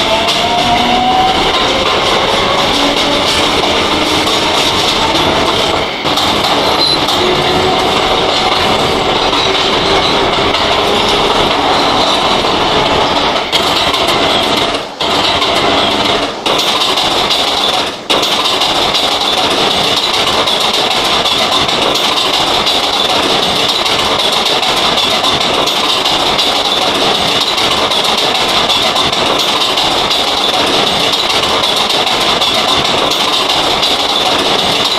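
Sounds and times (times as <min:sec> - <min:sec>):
subway car hum and rumble: 0:00.0 - 0:34.9.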